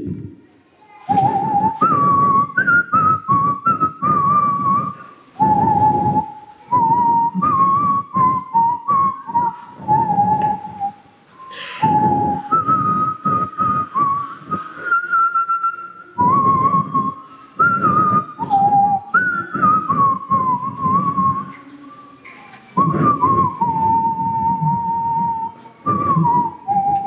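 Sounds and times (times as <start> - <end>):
man whistling a melody: 1.1 - 21.6, 22.8 - 27.0.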